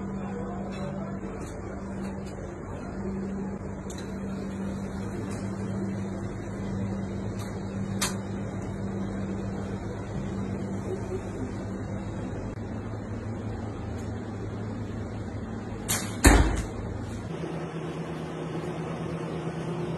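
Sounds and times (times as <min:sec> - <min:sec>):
low machine hum: 0:00.0 - 0:19.9.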